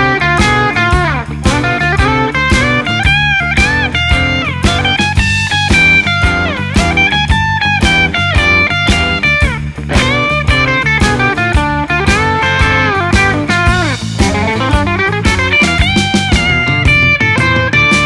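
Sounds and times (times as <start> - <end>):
bass guitar: 0.0 - 18.0
drums: 0.0 - 18.0
overdriven electric guitar blues lead: 0.0 - 18.0.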